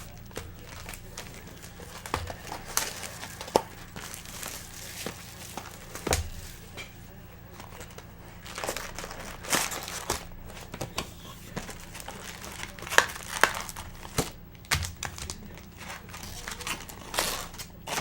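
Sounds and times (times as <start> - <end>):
card pack wrappers crinkling: 0.0 - 18.0.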